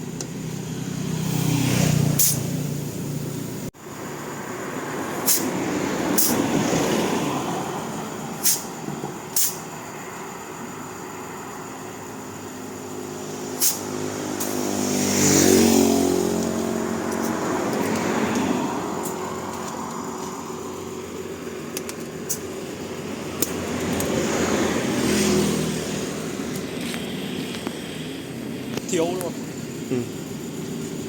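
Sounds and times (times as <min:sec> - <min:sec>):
vehicles passing on road: 0:00.0 - 0:31.0.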